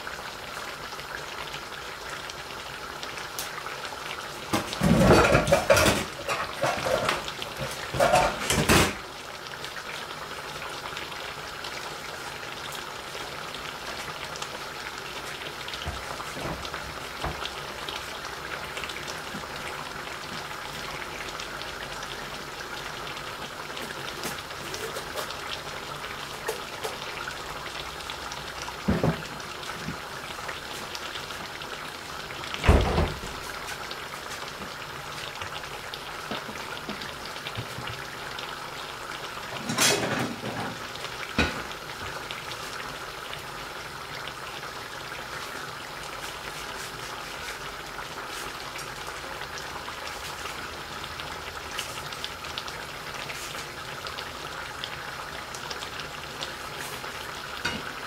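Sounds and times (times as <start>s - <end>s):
meat sizzling and crackling in oil: 0.0s - 58.0s.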